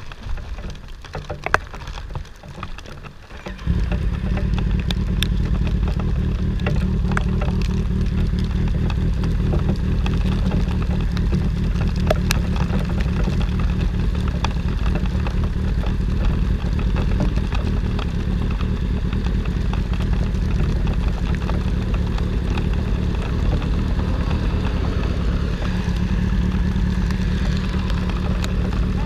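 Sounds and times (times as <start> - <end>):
raindrops ticking: 0.0 - 29.0
wind and motorcycle engine: 0.0 - 29.0.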